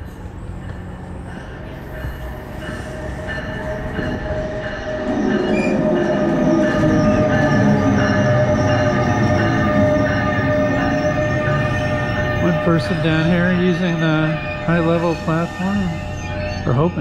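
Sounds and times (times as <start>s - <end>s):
train rumble: 0.0s - 17.0s
train wheels squealing: 0.0s - 17.0s.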